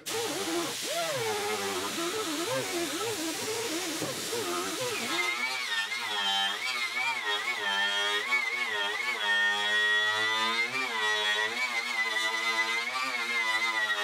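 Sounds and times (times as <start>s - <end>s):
hand-held grinder whining: 0.0s - 14.0s.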